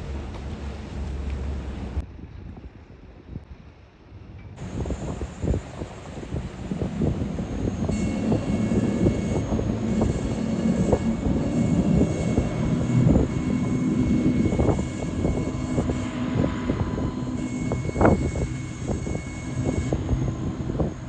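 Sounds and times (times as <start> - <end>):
motorboat engines droning: 0.0 - 2.0, 4.6 - 21.0
wind buffeting microphone: 0.0 - 21.0.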